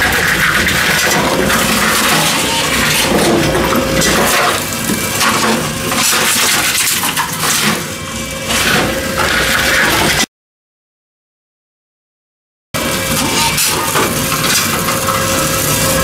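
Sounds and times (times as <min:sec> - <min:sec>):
vending machine running: 0:00.0 - 0:10.3, 0:12.8 - 0:16.0.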